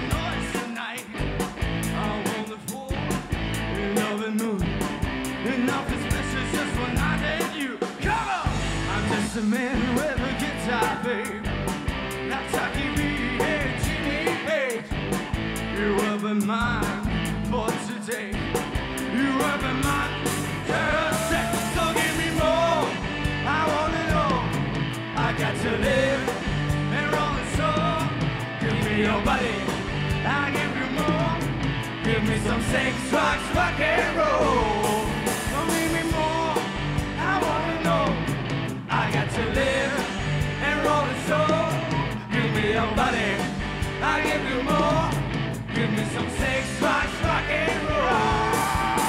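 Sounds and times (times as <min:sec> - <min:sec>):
live rock band playing: 0:00.0 - 0:49.0
person singing: 0:03.7 - 0:04.7, 0:05.4 - 0:11.5, 0:12.3 - 0:14.9, 0:15.7 - 0:18.4, 0:19.1 - 0:24.6, 0:25.2 - 0:38.3, 0:38.9 - 0:49.0.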